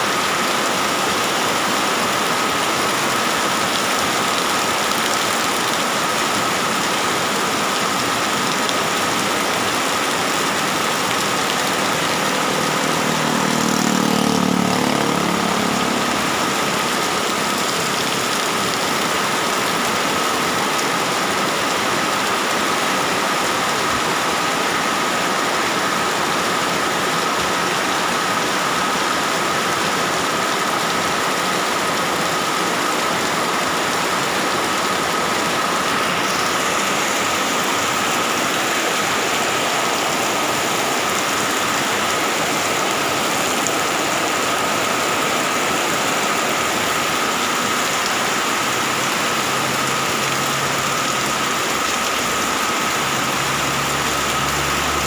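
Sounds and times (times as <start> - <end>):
heavy rain falling: 0.0 - 55.0
runoff splashing onto concrete: 0.1 - 55.0.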